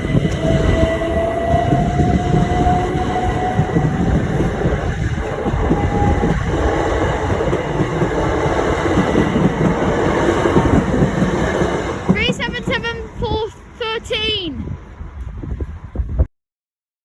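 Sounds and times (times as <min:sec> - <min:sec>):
thin train whine: 0:00.0 - 0:16.1
train rumbling on rails: 0:00.0 - 0:16.3.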